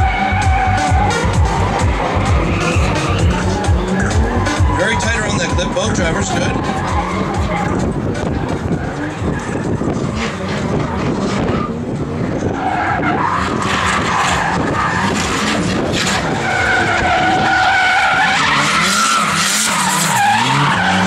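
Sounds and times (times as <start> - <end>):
tyres squealing: 0.0 - 11.8, 12.4 - 21.0
car engines at high revs: 0.0 - 21.0.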